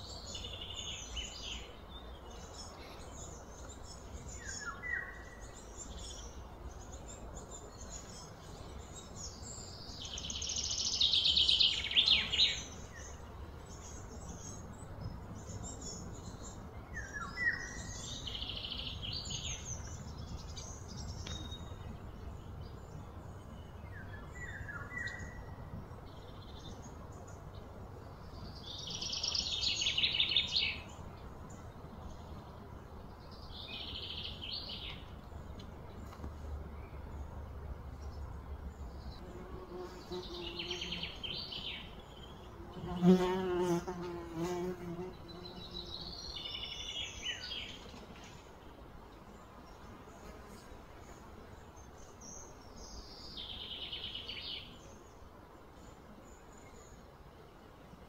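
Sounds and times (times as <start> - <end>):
songbirds trilling: 0.0 - 57.6.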